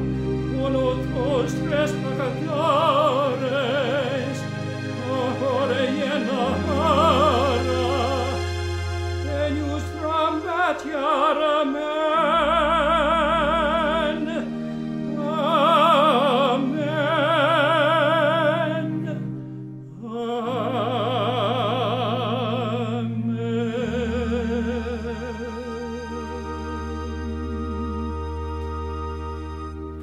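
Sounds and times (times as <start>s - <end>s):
tenor voice singing with vibrato: 0.0s - 28.7s
organ chords: 0.0s - 30.0s.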